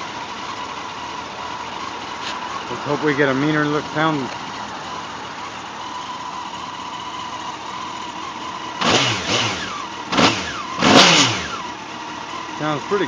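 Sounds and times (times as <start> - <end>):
motorcycle engine idling: 0.0 - 13.0
motorcycle throttle blips: 0.0 - 13.0.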